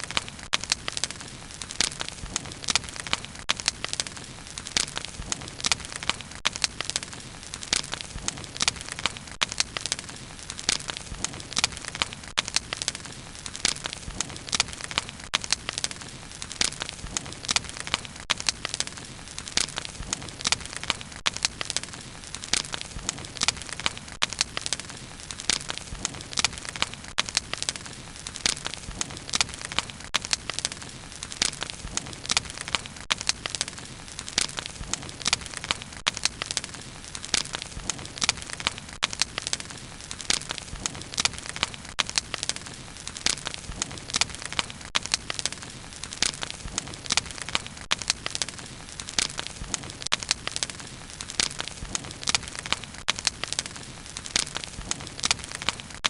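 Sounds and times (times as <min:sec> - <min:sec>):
bonfire crackles and pops: 0:00.0 - 0:56.0
low rumble of flames: 0:00.0 - 0:56.0.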